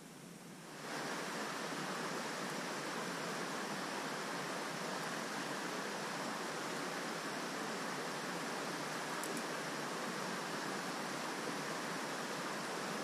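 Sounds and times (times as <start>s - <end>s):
stream water flowing: 0.1s - 13.0s.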